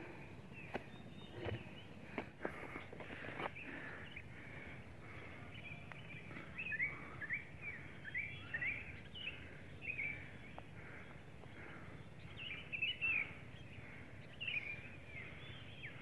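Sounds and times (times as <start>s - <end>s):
low outdoor background noise: 0.0s - 16.0s
small birds chirping: 0.0s - 16.0s.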